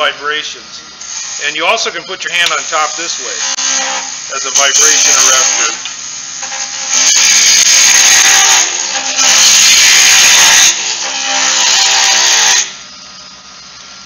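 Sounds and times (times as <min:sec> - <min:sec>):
lathe humming: 0:00.0 - 0:14.0.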